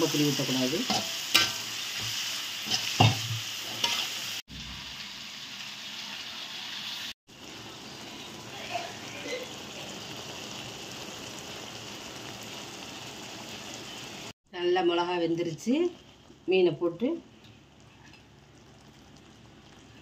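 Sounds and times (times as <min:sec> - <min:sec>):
masala sizzling in oil: 0:00.0 - 0:20.0.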